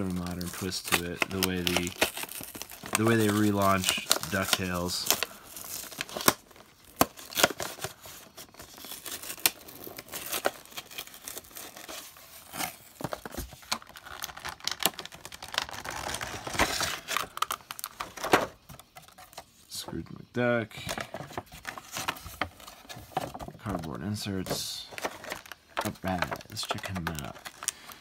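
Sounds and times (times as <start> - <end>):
plastic blister pack crinkling: 0.0 - 20.0, 20.6 - 28.0.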